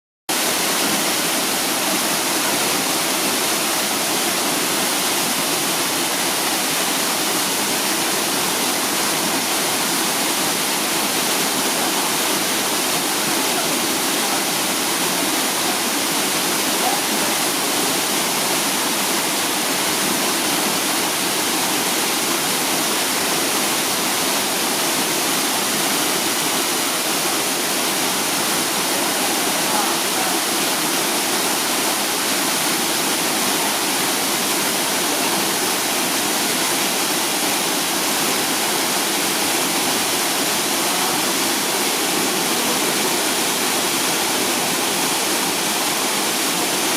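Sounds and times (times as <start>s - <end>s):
waterfall rushing: 0.3s - 46.9s.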